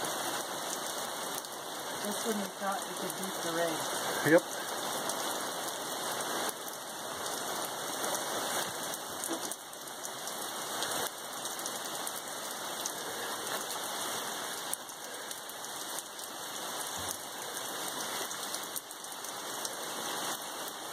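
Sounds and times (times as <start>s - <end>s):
rain pouring down: 0.0s - 20.9s.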